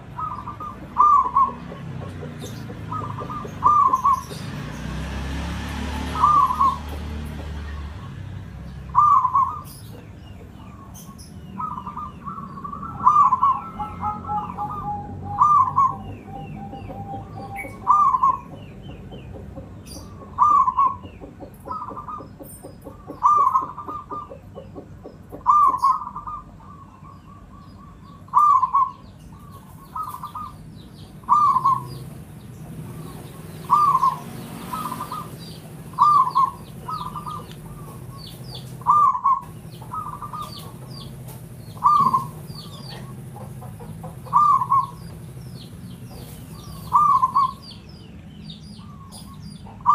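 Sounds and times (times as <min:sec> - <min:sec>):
dove cooing: 0:00.0 - 0:04.8, 0:05.8 - 0:08.0, 0:08.8 - 0:47.7, 0:48.8 - 0:49.9.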